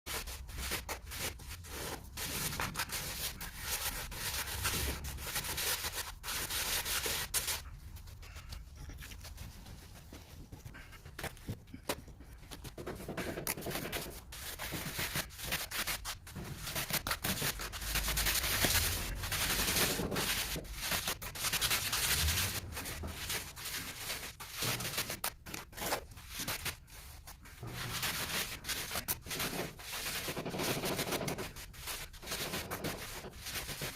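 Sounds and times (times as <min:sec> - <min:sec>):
trowel scraping cement mortar: 0:00.1 - 0:09.4, 0:12.5 - 0:33.9.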